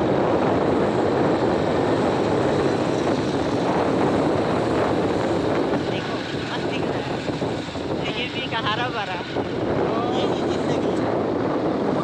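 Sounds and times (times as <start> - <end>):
road noise: 0.0 - 12.0
rushing wind: 0.0 - 12.0
wind buffeting microphone: 0.0 - 12.0.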